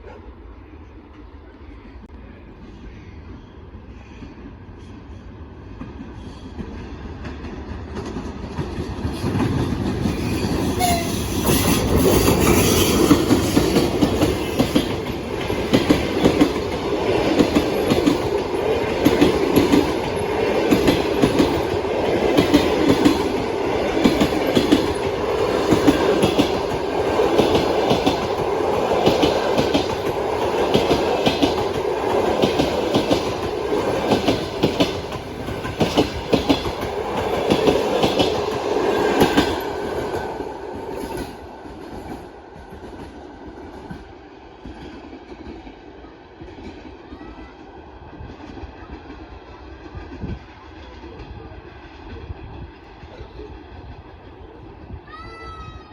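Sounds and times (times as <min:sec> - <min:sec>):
train passing rumble: 0:00.0 - 0:55.9.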